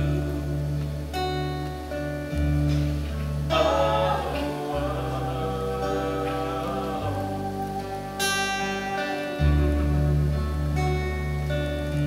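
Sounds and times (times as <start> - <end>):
low bass notes: 0.0 - 12.0
strummed acoustic guitar: 0.0 - 12.0.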